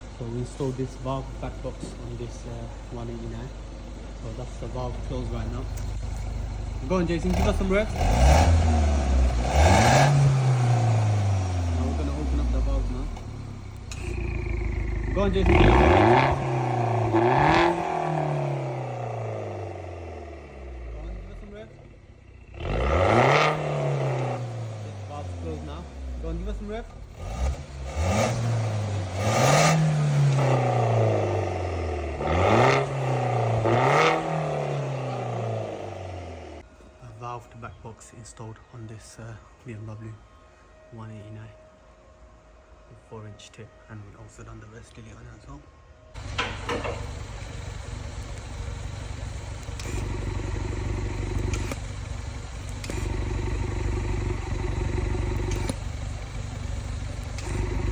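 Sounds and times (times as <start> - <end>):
car engine revving: 0.0 - 36.6, 46.2 - 57.9.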